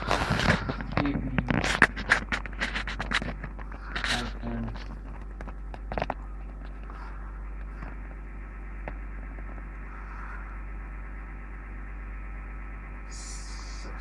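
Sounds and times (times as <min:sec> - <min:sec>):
mains hum: 0:00.0 - 0:14.0
washing machine running: 0:00.0 - 0:14.0.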